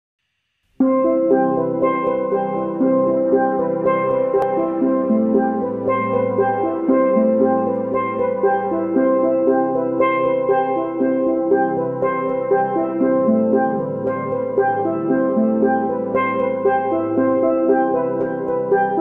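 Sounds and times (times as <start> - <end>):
steelpan music over drums: 0.8 - 19.0.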